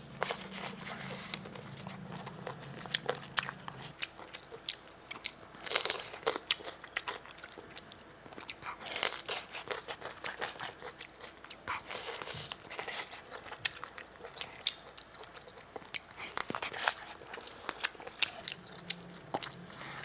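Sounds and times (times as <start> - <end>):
crisp crunching and chewing: 0.1 - 20.0.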